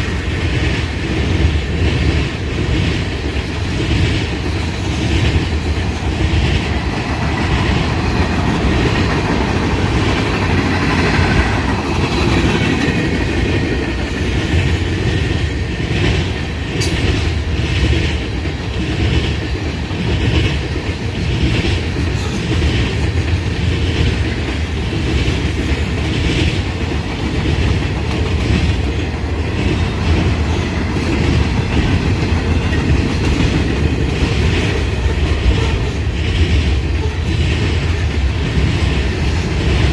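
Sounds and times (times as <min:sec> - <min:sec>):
clickety-clack of wheels: 0:00.0 - 0:39.9
freight train rumbling: 0:00.0 - 0:39.9.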